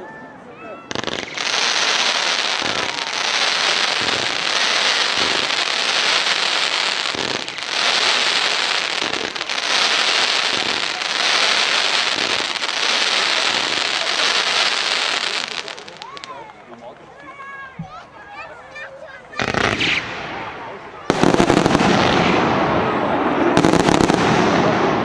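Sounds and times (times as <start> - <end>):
fireworks crackling: 0.9 - 16.8, 19.3 - 25.0.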